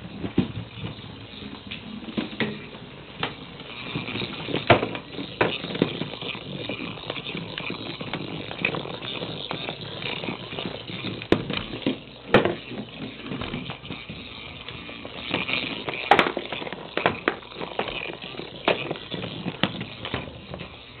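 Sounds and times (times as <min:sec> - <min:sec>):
toy ball rolling on tile: 0:00.0 - 0:21.0.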